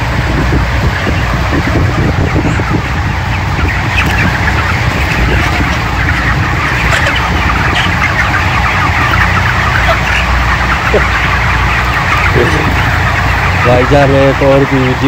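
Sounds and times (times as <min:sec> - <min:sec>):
chickens chirping and clucking: 0:00.0 - 0:15.0
ventilation fans droning: 0:00.0 - 0:15.0.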